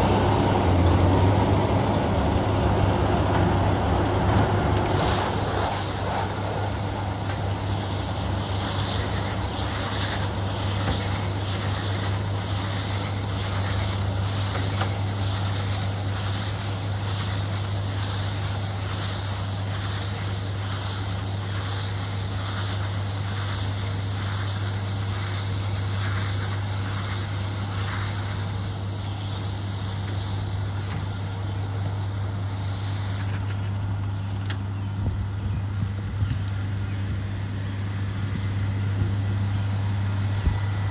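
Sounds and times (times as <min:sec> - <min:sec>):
tractor engine running: 0:00.0 - 0:39.2.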